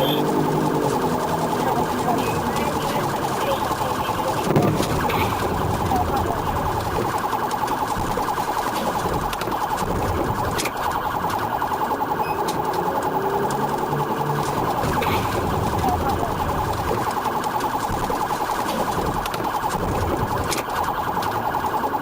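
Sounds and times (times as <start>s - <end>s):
engine and road noise: 0.0s - 22.0s
police siren wailing: 0.0s - 22.0s.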